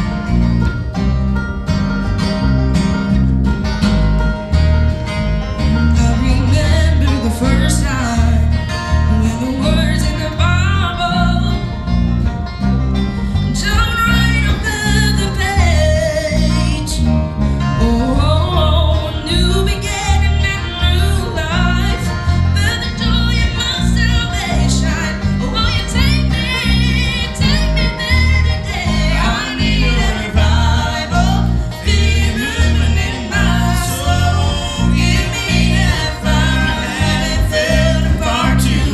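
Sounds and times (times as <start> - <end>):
guitar accompaniment: 0.0 - 38.9
rhythmic bass line: 0.0 - 38.9
group singing gospel: 5.6 - 38.9.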